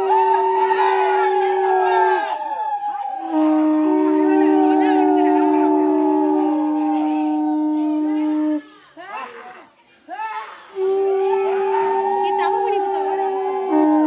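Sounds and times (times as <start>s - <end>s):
horns blowing long blasts: 0.0s - 8.6s, 10.7s - 14.0s
wavering gliding cries: 0.0s - 8.7s, 10.7s - 14.0s.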